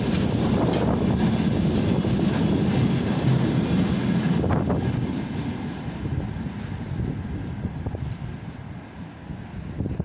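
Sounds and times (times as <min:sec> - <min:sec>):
wheels clicking over rail joints: 0:00.0 - 0:08.4
train wheels rumbling on rails: 0:00.0 - 0:10.0.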